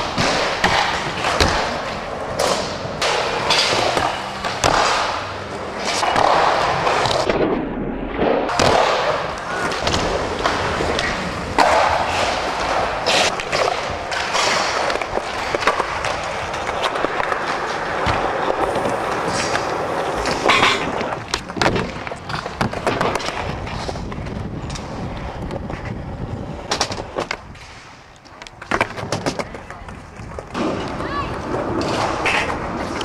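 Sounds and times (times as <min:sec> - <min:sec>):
skateboard clacking on ground: 0:00.0 - 0:07.4, 0:08.5 - 0:33.0
skateboard wheels rolling on concrete: 0:00.0 - 0:33.0.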